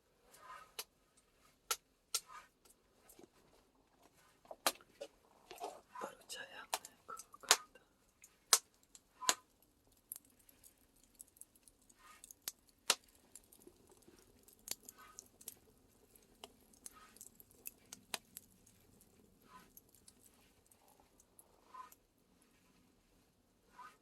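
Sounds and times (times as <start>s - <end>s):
soft rustling of leaves: 2.3s - 24.0s
tea leaves crackling in a pan: 3.0s - 23.3s.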